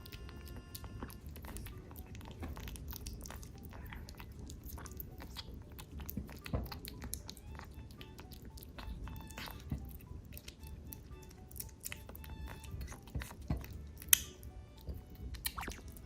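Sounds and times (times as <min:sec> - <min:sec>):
kitten chewing: 0:00.0 - 0:16.0.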